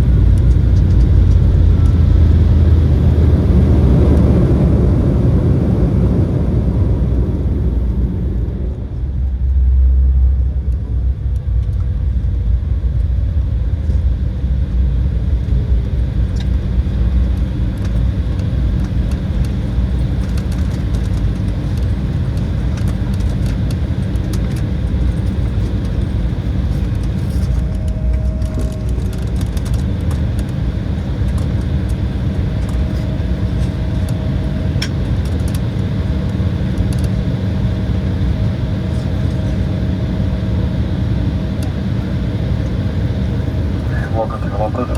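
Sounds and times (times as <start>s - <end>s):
aircraft cabin rumble: 0.0s - 44.9s.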